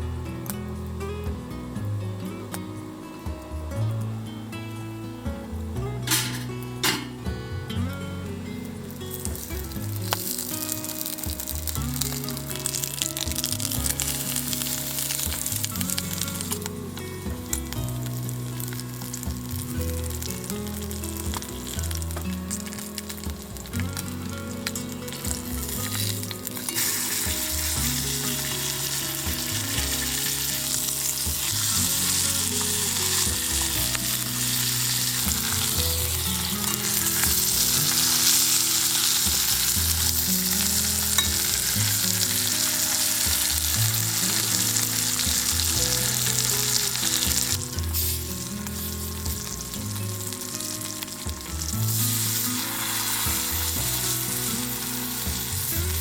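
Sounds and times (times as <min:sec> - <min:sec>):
soft background music: 0:00.0 - 0:56.0
food sizzling in a pan: 0:04.2 - 0:56.0.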